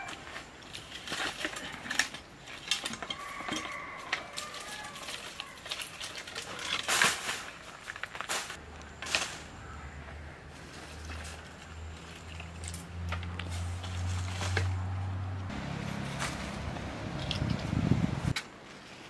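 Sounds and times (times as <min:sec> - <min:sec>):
dry leaves rustling: 0:00.0 - 0:19.0.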